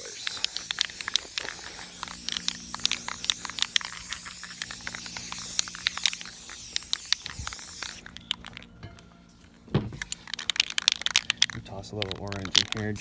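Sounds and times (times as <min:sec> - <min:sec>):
spray paint can hissing: 0:00.0 - 0:08.7, 0:10.0 - 0:13.0
sharp ticks and crackles: 0:00.0 - 0:13.0.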